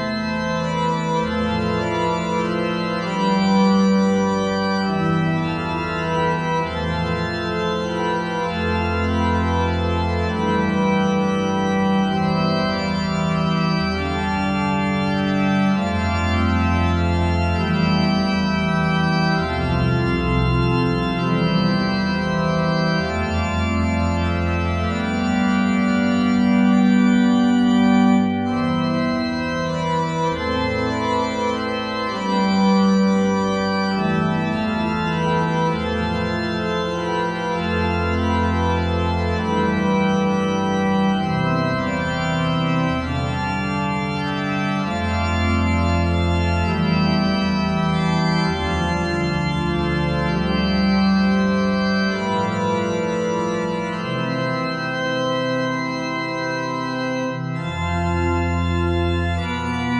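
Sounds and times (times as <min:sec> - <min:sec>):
calm held keyboard chords: 0:00.0 - 0:59.9.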